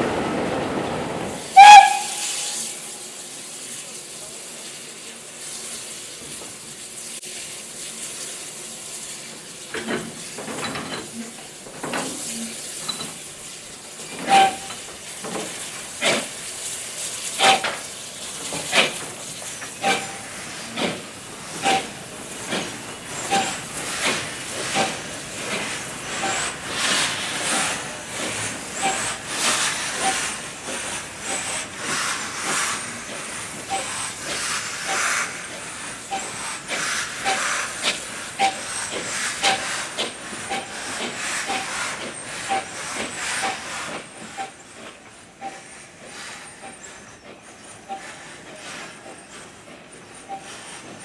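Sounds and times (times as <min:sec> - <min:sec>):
steam hissing: 0:00.0 - 0:51.0
steam locomotive chuffing: 0:00.0 - 0:51.0.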